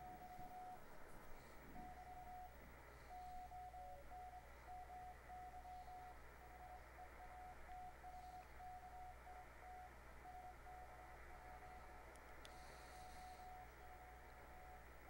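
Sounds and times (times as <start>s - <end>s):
morse code beeps: 0.0s - 0.8s, 1.8s - 12.0s, 12.6s - 14.8s
low hum: 0.0s - 15.0s
receiver hiss: 0.0s - 15.0s.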